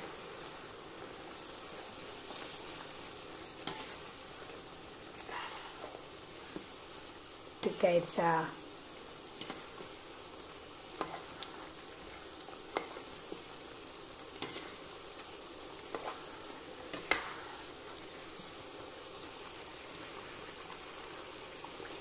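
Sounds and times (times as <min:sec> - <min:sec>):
paste sizzling in oil: 0:00.0 - 0:22.0.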